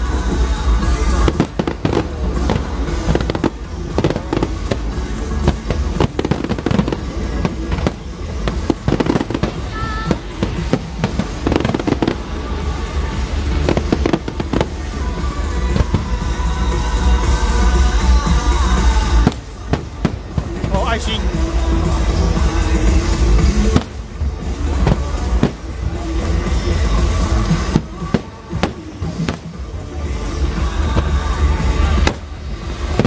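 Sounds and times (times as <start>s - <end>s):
fireworks bursting: 0.0s - 33.0s
music playing: 0.0s - 33.0s.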